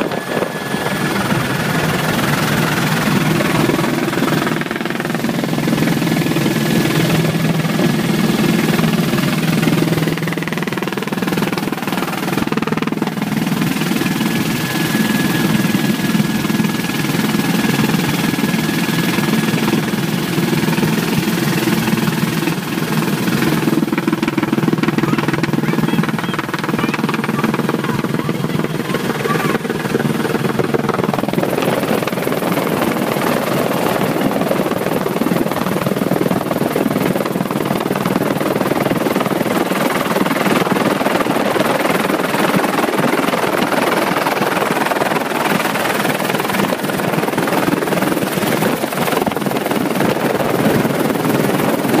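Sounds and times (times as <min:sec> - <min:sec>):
helicopter engine and rotor: 0:00.0 - 0:52.0.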